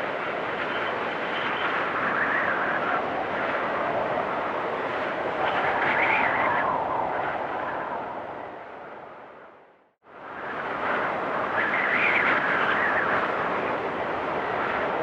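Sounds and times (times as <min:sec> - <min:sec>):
storm wind whistling: 0:00.0 - 0:15.0.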